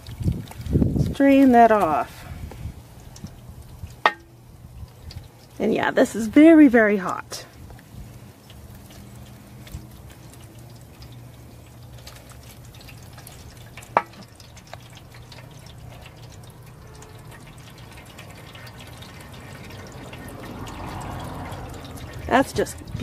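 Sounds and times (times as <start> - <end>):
resin pouring and dripping: 0.0 - 23.0.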